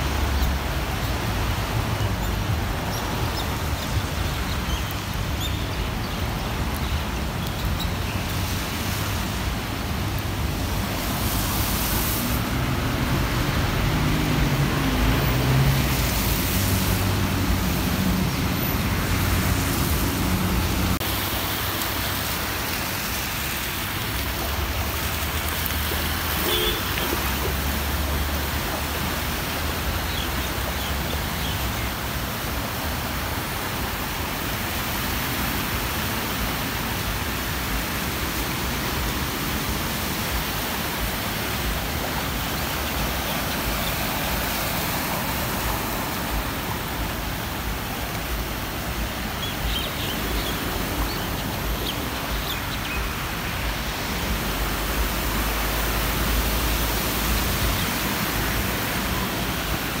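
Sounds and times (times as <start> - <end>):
heavy rain and floodwater rushing: 0.0 - 60.0.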